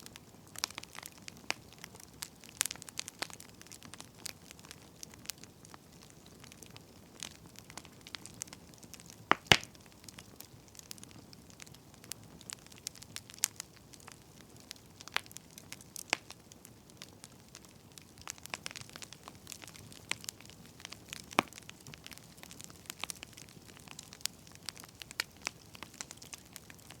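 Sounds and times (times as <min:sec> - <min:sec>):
faint fire hiss: 0:00.0 - 0:27.0
wood fire crackling: 0:00.0 - 0:27.0.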